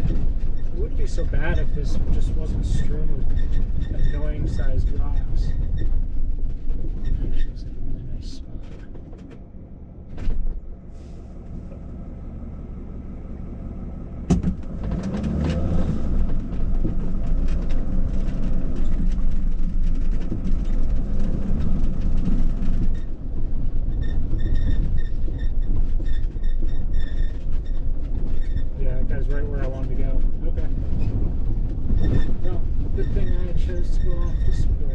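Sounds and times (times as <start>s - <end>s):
knocks and rattles: 0.0s - 9.5s, 14.3s - 34.9s
van engine and tyre rumble: 0.0s - 34.9s.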